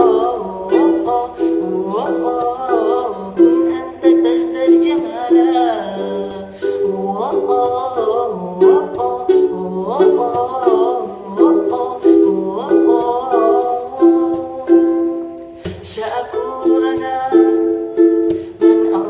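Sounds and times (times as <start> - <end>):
person singing: 0.0 - 19.0
plucked string melody: 0.0 - 19.0.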